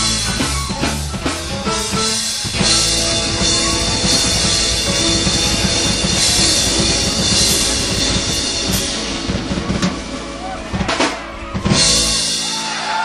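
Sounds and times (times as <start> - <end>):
drum kit: 0.0 - 13.0
live rock band playing: 0.0 - 13.0
cymbals crashing: 2.1 - 13.0.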